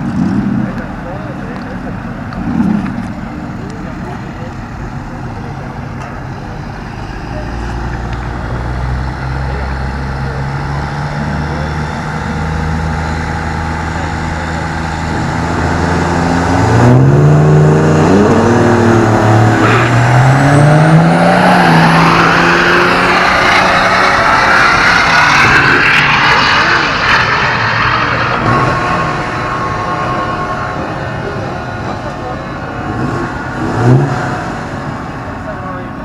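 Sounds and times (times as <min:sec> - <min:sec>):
truck engine accelerating hard: 0:00.0 - 0:36.0.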